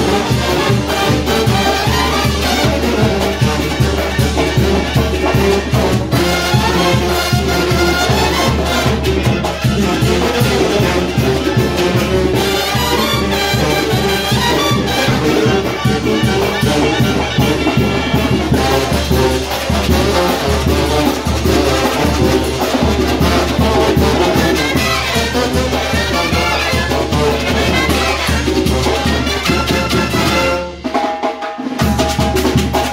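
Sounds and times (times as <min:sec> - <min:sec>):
brass band playing dance tune: 0:00.0 - 0:32.9.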